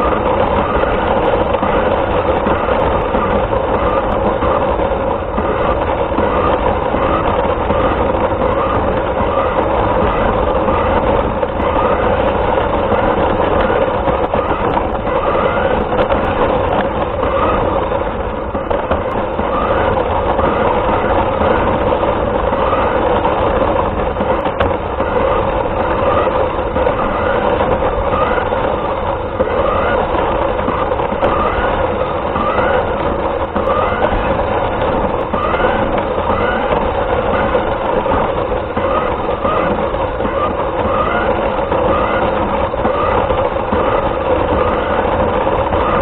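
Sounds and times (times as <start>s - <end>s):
toy car motor whine: 0.0s - 18.2s, 18.8s - 46.0s
wheels rumbling on ground: 0.0s - 46.0s.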